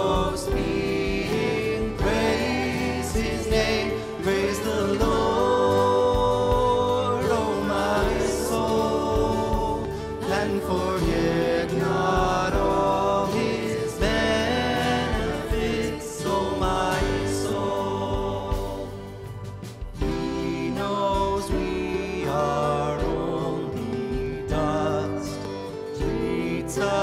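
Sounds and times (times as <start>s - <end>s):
instrumental accompaniment: 0.0s - 27.0s
voices singing: 0.0s - 27.0s.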